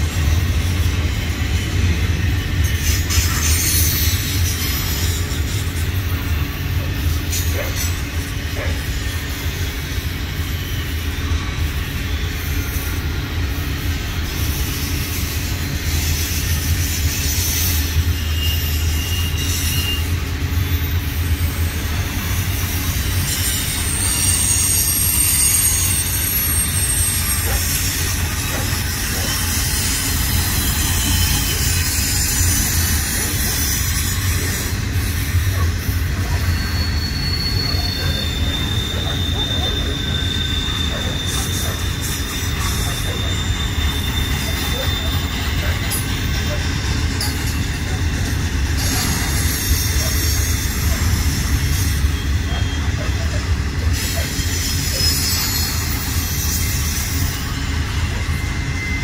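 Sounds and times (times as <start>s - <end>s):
high wheel squeals: 0.0s - 59.0s
steel wheels rumbling on rail: 0.0s - 59.0s.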